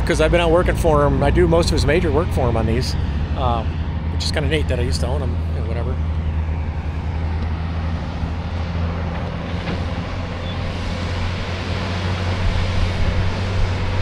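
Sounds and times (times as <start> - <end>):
diesel earthmoving equipment running: 0.0 - 14.0.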